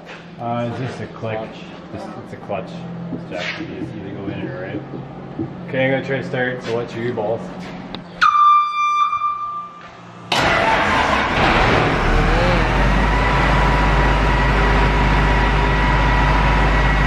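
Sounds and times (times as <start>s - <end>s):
diesel engine starting and running: 0.0s - 8.2s, 9.8s - 17.0s.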